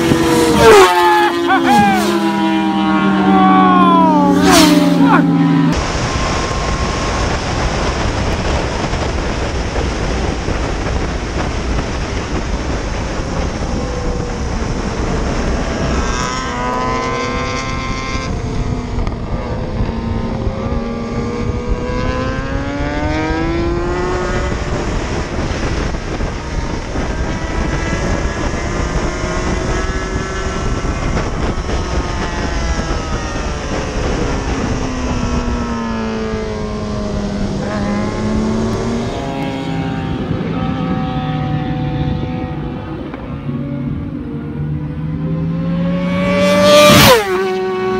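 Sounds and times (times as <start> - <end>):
heavy wind rush on microphone: 0.0 - 47.9
motorcycle engine revving: 0.0 - 47.9.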